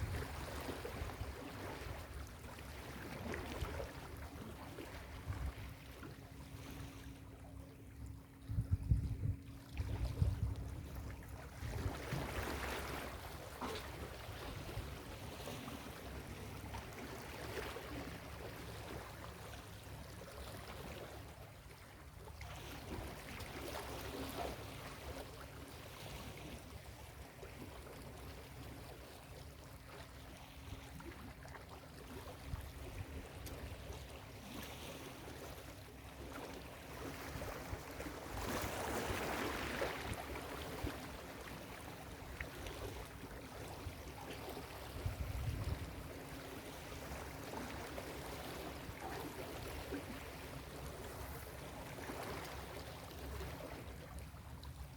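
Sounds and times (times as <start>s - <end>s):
ocean waves on a beach: 0.0s - 8.5s, 9.2s - 54.9s.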